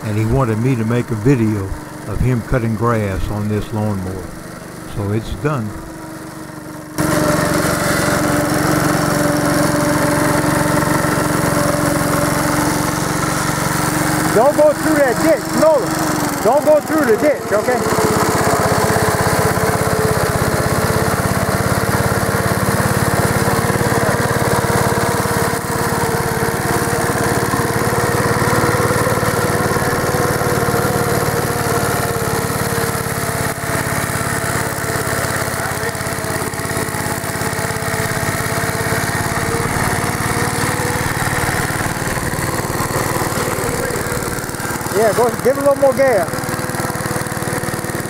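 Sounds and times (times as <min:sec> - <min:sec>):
riding lawnmower engine running: 0:00.0 - 0:48.0.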